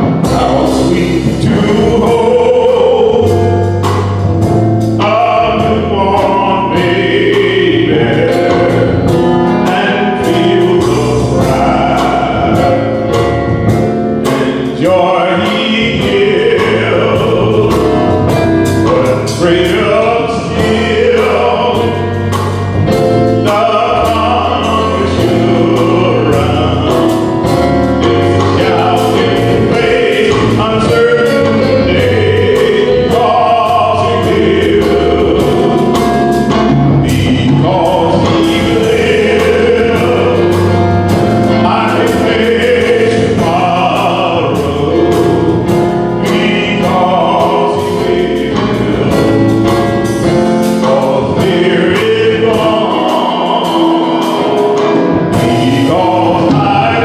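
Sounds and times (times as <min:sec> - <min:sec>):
instrumental accompaniment with bass: 0:00.0 - 0:57.0
man singing gospel song: 0:00.0 - 0:57.0.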